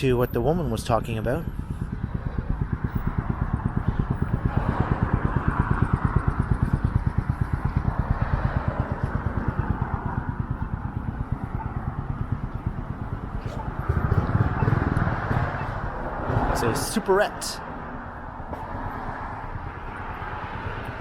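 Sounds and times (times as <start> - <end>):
low fast throbbing: 0.0 - 18.4
car passing: 0.0 - 21.0.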